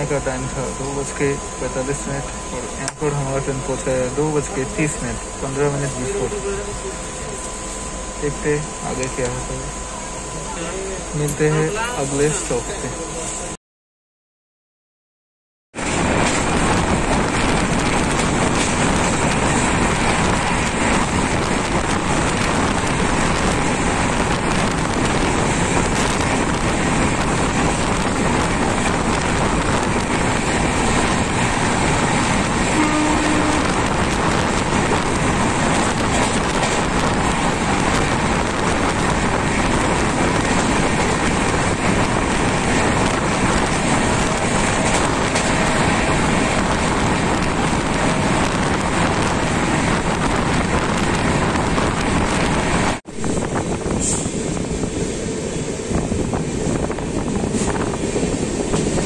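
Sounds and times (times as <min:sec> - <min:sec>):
train wheel and wind rush: 0:00.0 - 0:13.6, 0:15.7 - 0:59.0.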